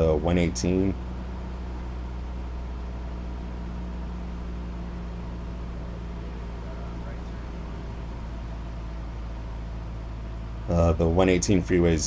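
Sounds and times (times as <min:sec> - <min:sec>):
airplane engine and propeller droning: 0:00.0 - 0:12.0.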